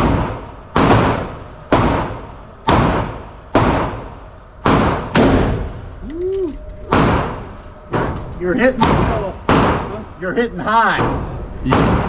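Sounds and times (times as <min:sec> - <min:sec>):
rifle shots echoing indoors: 0:00.0 - 0:10.4.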